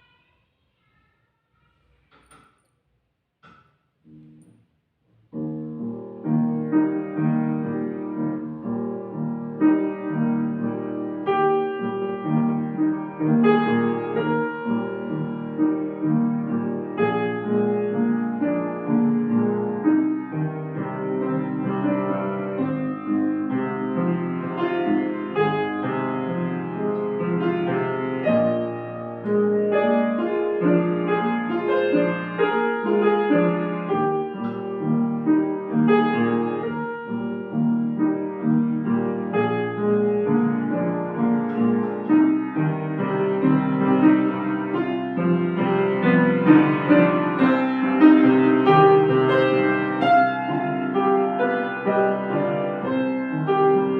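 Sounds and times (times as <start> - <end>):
solo classical piano: 3.4 - 53.9.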